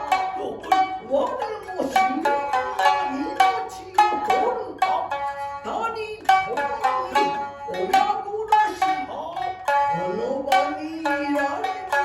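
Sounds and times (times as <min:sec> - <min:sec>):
person chanting: 0:00.0 - 0:12.0
shamisen plucked notes: 0:00.0 - 0:12.0.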